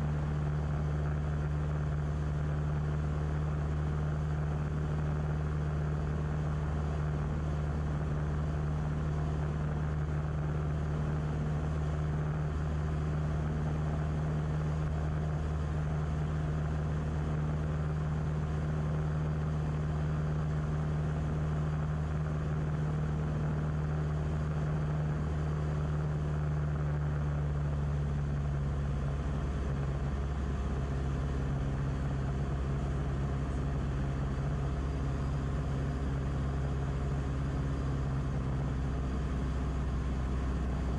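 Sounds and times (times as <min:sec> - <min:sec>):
aircraft engine and propeller droning: 0:00.0 - 0:40.9.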